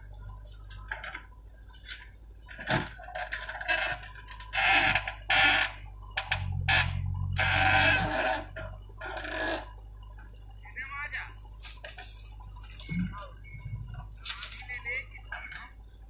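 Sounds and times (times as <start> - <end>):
diesel engine hum: 0.0 - 16.0.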